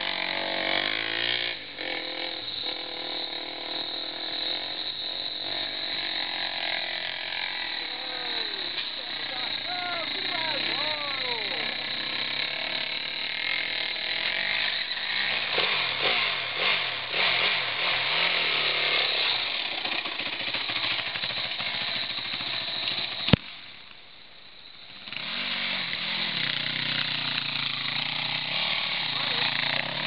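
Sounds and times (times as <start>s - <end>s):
dirt bike engine revving: 0.0s - 23.3s, 24.9s - 30.0s.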